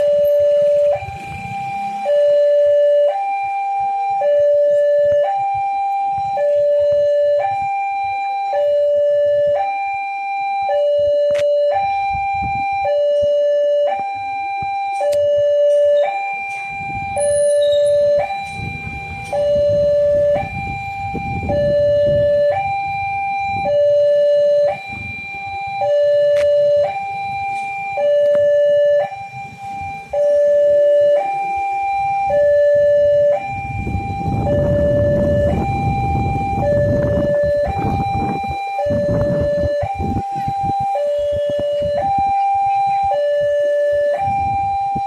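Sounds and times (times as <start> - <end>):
level-crossing warning alarm: 0.0 - 45.0.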